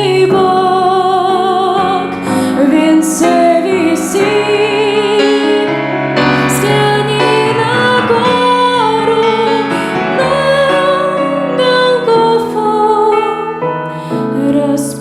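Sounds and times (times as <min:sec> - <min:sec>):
woman singing sacred song: 0:00.0 - 0:05.7, 0:06.5 - 0:13.5
piano accompaniment: 0:00.0 - 0:15.0.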